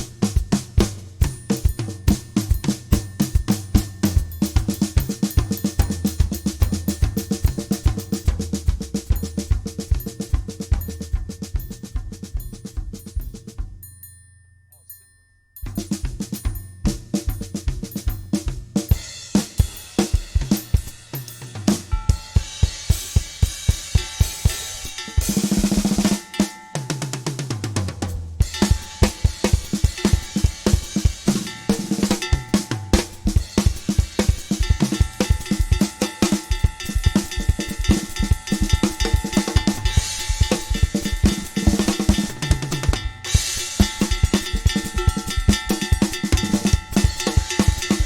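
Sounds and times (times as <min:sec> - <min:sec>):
drum kit music: 0:00.0 - 0:13.9, 0:15.6 - 0:48.0
cymbals: 0:00.0 - 0:14.0, 0:15.6 - 0:48.0.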